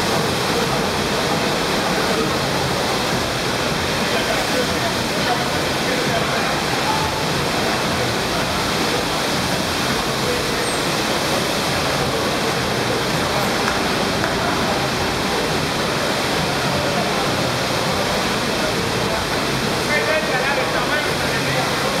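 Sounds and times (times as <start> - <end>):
rushing water on surf ramp: 0.0 - 22.0.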